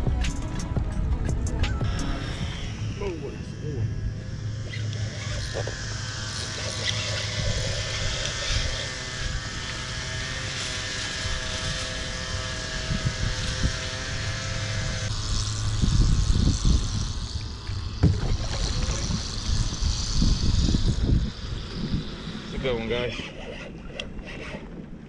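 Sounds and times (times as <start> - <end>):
steady motor hum: 0.0 - 25.0
wind rumbling on microphone: 0.0 - 25.0.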